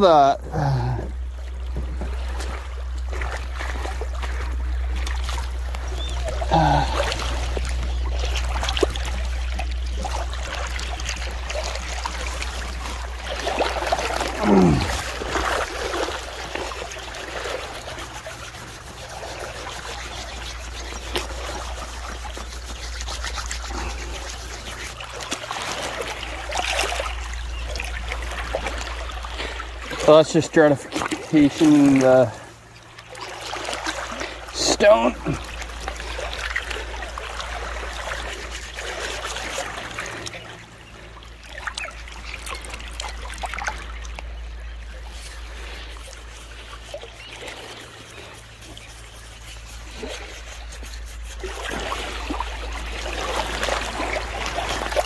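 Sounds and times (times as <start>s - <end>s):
water lapping over pebbles: 0.0s - 55.0s.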